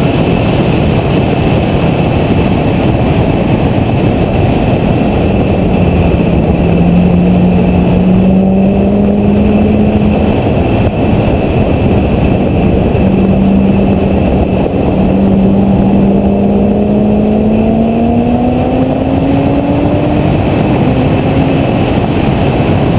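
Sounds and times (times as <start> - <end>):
wind noise on microphone: 0.0 - 22.9
car engine revving hard: 2.4 - 22.9.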